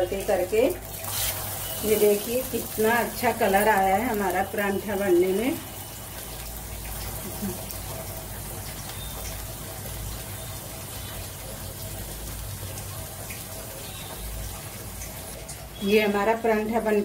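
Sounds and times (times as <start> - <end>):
flatbread sizzling in ghee: 0.0 - 17.0.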